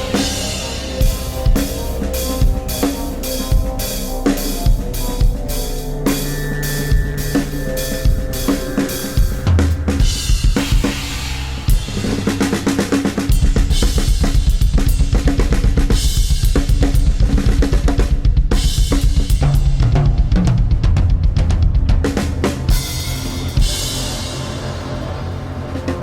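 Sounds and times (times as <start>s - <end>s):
drum kit playing: 0.0s - 26.0s
low bass notes: 0.0s - 26.0s.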